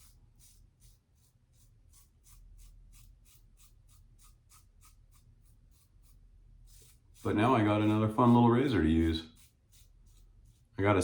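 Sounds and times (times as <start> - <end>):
razor scraping stubble: 0.0 - 11.0.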